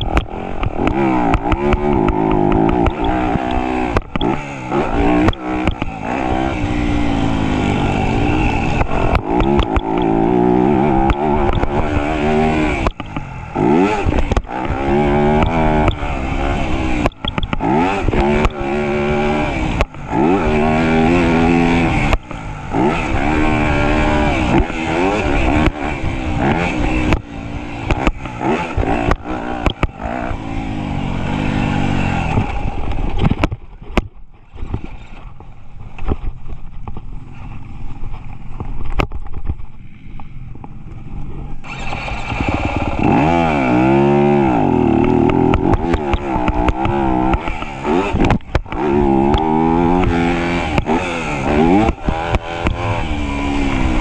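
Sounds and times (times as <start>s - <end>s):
dirt bike engine revving: 0.0s - 36.2s, 41.4s - 54.0s.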